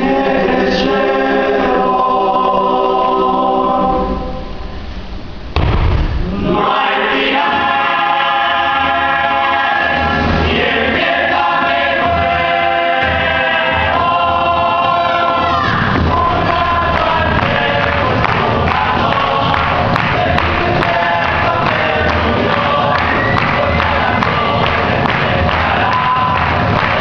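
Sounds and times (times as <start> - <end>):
group singing in harmony: 0.0 - 4.8, 6.2 - 27.0
musical accompaniment: 0.0 - 27.0.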